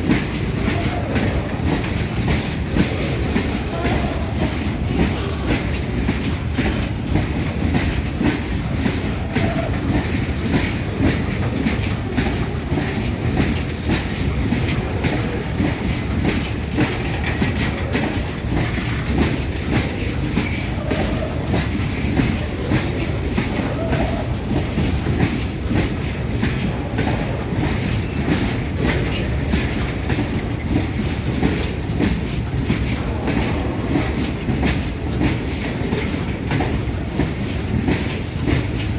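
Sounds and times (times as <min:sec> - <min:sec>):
train wheels clacking: 0:00.0 - 0:38.9.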